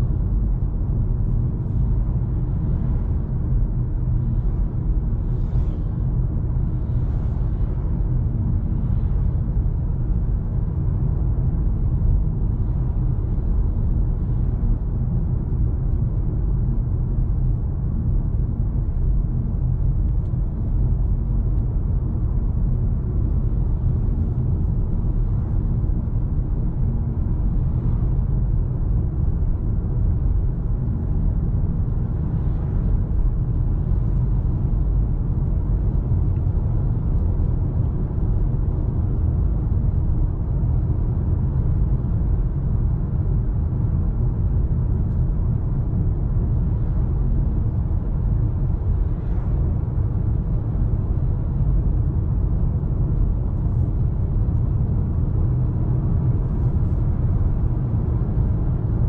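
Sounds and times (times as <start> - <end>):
road and tyre noise in car: 0.0 - 59.0.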